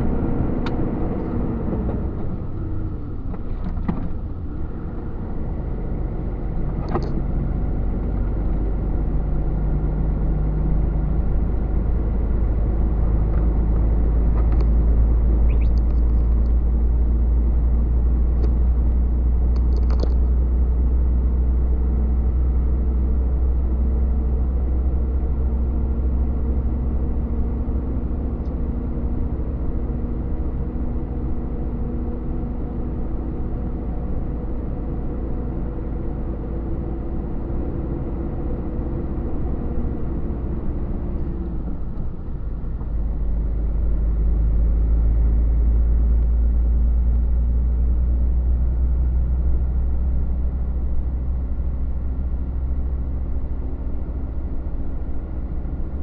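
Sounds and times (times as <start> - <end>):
road rumble: 0.0 - 56.0
truck engine drone: 0.0 - 56.0.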